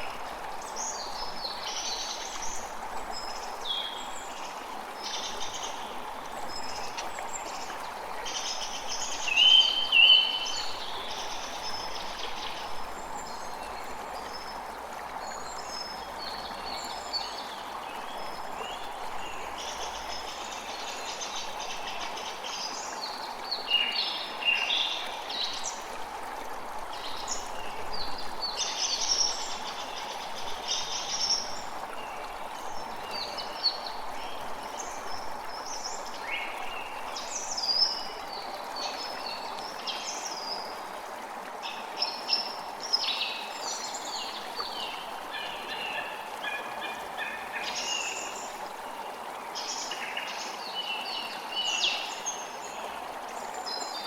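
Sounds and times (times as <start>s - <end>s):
creek running: 0.0s - 54.0s.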